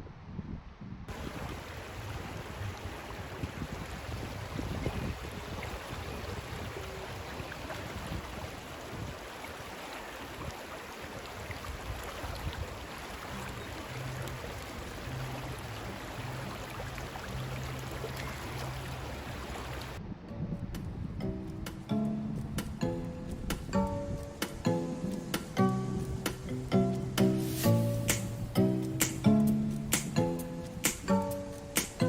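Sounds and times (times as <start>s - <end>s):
creek water rushing: 1.1s - 20.0s, 24.5s - 32.0s.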